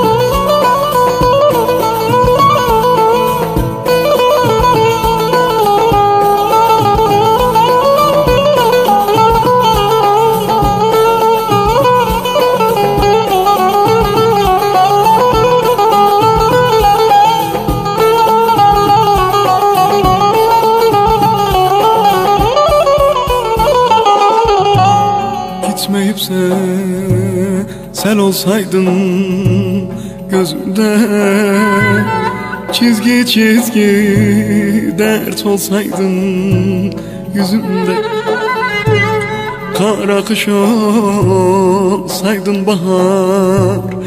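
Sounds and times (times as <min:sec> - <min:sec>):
instrumental arabesk music: 0:00.0 - 0:44.0.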